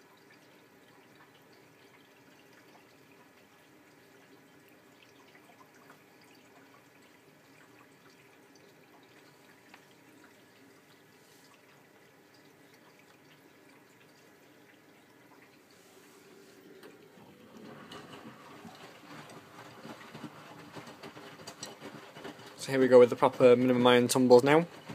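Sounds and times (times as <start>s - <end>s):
water trickling and dripping: 0.0s - 24.9s.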